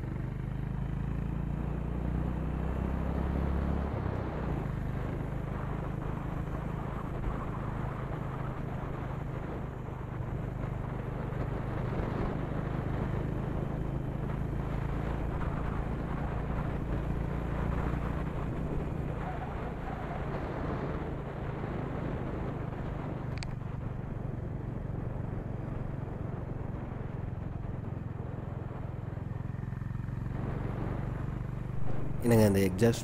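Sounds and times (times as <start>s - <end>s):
motorcycle engine exhaust drone: 0.0s - 33.0s.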